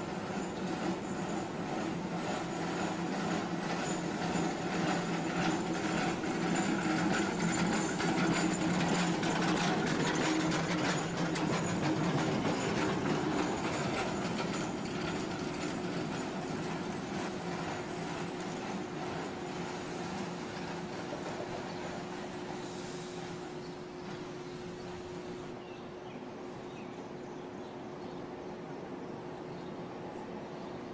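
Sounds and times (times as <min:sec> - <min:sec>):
steel wheels rattling on rails: 0:00.0 - 0:25.7
streetcar hum: 0:00.0 - 0:25.7.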